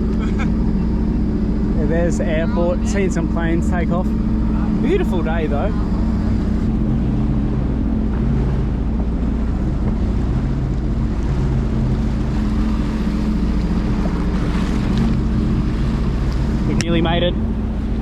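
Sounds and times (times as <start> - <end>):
jet ski engine droning: 0.0 - 18.0
water rushing past hull: 0.0 - 18.0.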